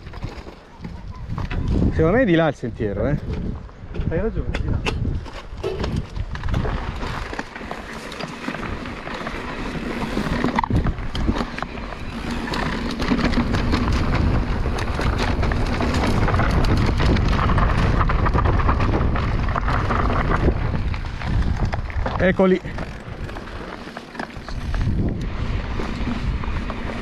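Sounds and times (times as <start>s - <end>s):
wind buffeting microphone: 0.0s - 7.6s, 8.6s - 23.7s, 24.4s - 27.0s
bike rattling and clicking: 0.0s - 27.0s
bike tyres on loose ground: 0.0s - 27.0s.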